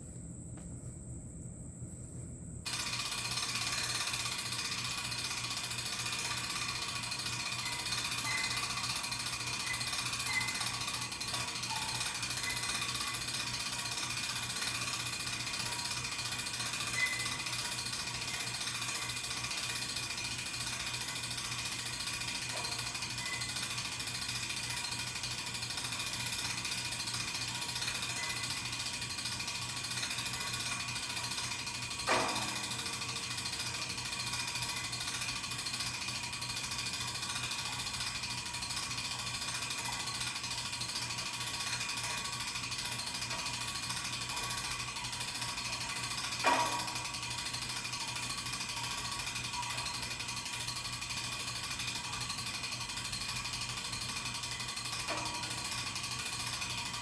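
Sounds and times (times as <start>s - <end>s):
rapid mechanical clicking: 2.7s - 57.0s.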